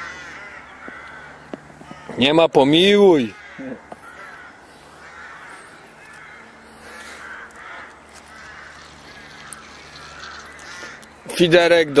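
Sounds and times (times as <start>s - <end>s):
crow cawing: 0.0s - 2.3s, 3.0s - 11.2s.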